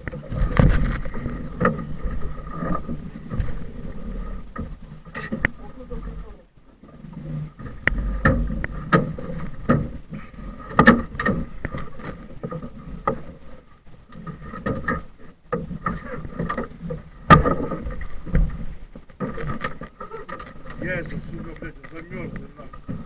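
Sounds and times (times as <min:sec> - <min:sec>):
faint steady whine: 0:00.0 - 0:23.0
water slapping metal boat hull: 0:00.0 - 0:23.0.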